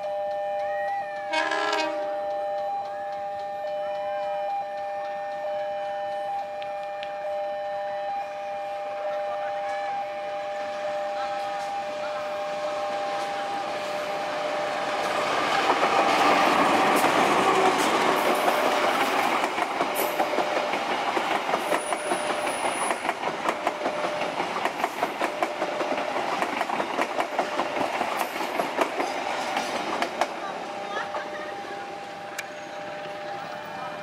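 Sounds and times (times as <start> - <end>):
train wheels clickety-clack: 0.0 - 7.2, 13.0 - 33.4
diesel locomotive engine: 0.0 - 34.0.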